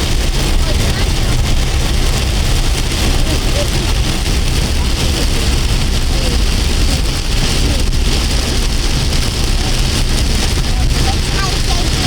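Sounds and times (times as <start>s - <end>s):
heavy rain on a car: 0.0s - 12.0s
moving car rumble: 0.0s - 12.0s.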